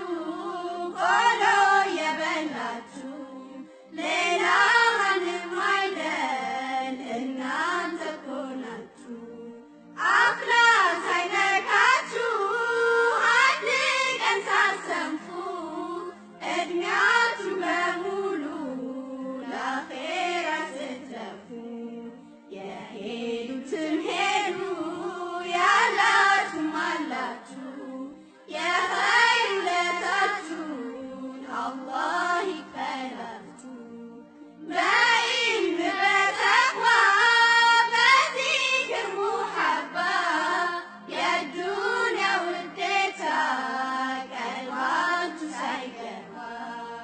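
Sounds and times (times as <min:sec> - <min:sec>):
person singing devotional song: 0:00.0 - 0:47.0.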